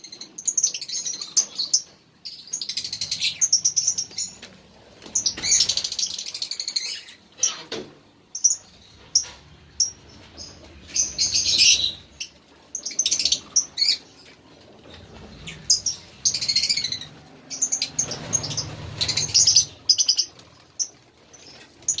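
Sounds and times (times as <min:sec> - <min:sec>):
bird chirping and chattering: 0:00.0 - 0:04.4, 0:05.1 - 0:07.7, 0:08.3 - 0:14.3, 0:14.9 - 0:22.0.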